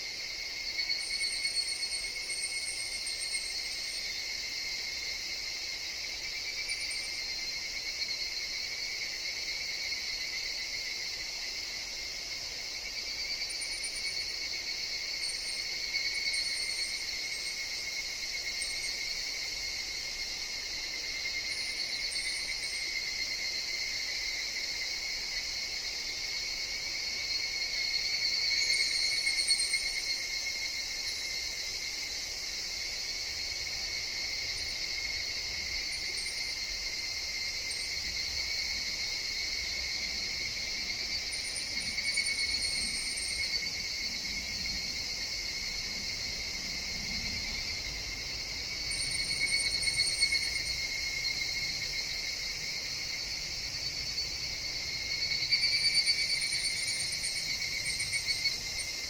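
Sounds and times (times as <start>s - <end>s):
cicadas shrill drone: 0.0s - 59.0s.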